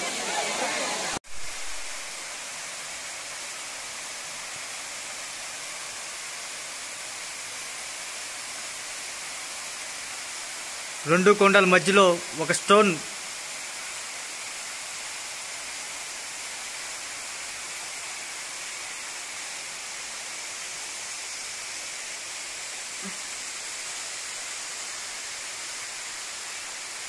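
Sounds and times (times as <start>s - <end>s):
small waterfall splashing into pool: 0.0s - 27.0s.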